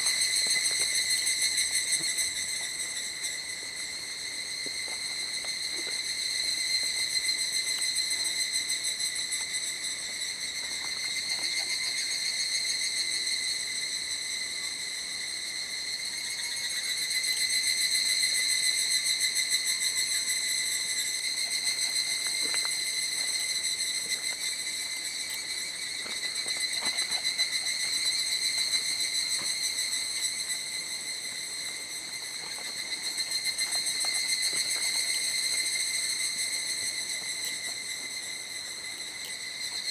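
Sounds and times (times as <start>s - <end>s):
cicadas buzzing chorus: 0.0s - 39.9s.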